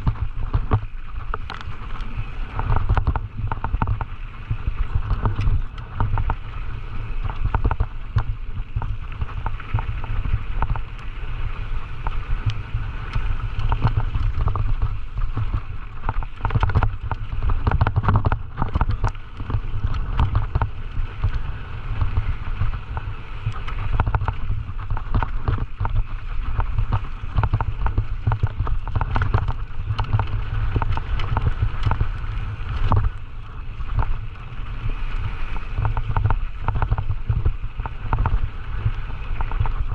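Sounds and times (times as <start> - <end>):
bike rattling over rough trail: 0.0 - 39.9
wind buffeting microphone: 0.0 - 39.9.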